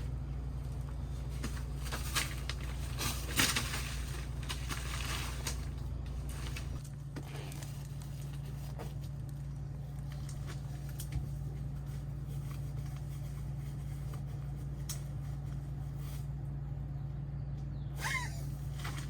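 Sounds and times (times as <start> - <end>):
handling clicks and rustles: 0.0 - 15.8
air conditioner humming: 0.0 - 19.0.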